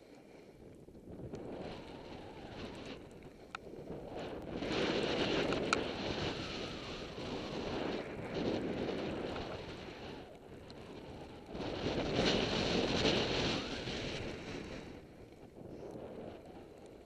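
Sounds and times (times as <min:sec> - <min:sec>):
snowboard sliding through powder: 0:00.0 - 0:17.0
wind on microphone: 0:00.0 - 0:17.0.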